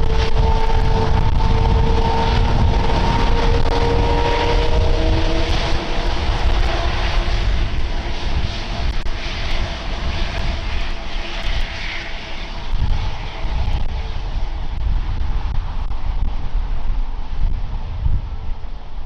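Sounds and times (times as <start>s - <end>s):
faint whine: 0.0s - 19.0s
jet airliner roaring past: 0.0s - 19.0s.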